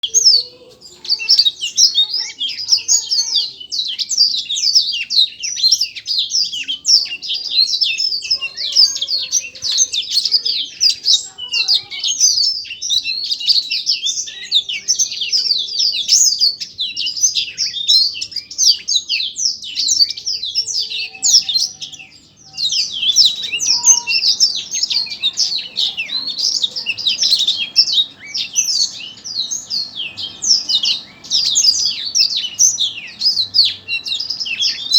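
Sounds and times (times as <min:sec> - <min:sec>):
songbird chattering song: 0:00.0 - 0:34.9.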